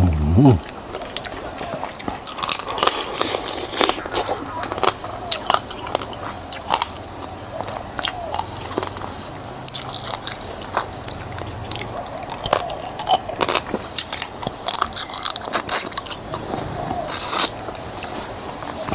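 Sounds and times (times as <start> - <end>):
wet chewing: 0.0 - 18.9.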